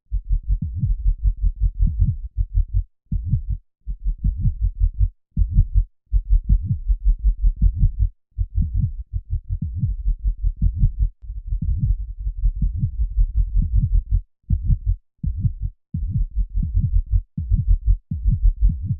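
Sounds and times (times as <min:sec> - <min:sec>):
heartbeat thuds: 0:00.1 - 0:18.9.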